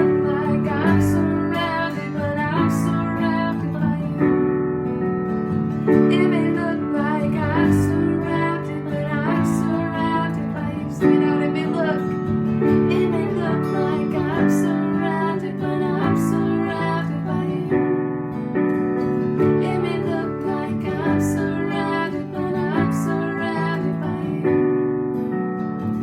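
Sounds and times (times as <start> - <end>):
person singing: 0.0 - 4.2, 6.0 - 17.8, 19.5 - 24.6
strummed acoustic guitar: 0.0 - 26.0.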